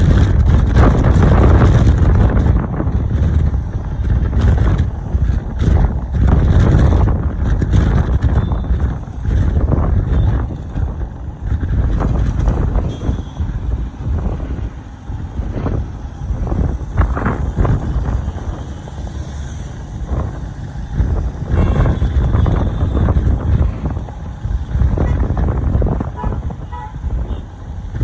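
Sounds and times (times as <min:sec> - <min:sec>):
road traffic rumble: 0:00.0 - 0:28.0
wind buffeting microphone: 0:00.0 - 0:28.0.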